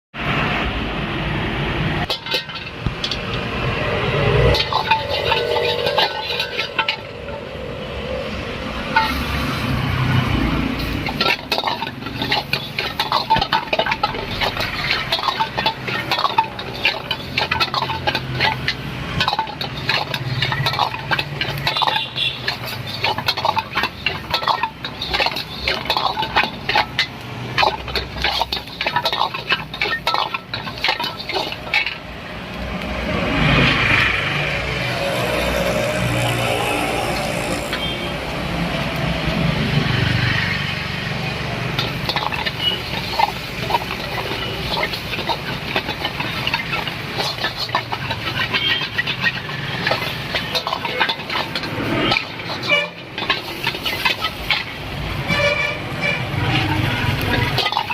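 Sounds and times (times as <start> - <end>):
metal spatula scraping a wok: 1.9 - 57.9.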